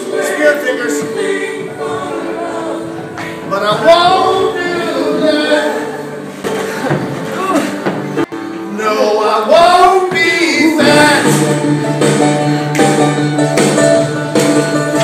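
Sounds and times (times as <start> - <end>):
song with singing voices: 0.0 - 15.0.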